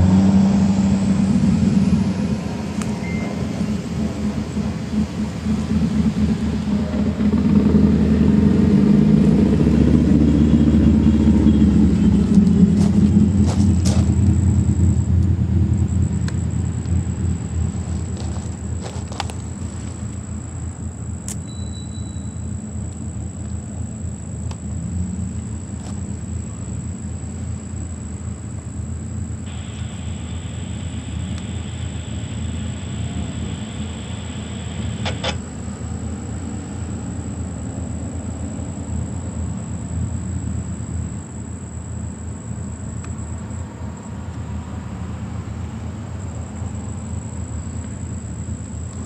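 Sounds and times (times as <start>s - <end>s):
low rumble of road vehicles: 0.0s - 49.0s.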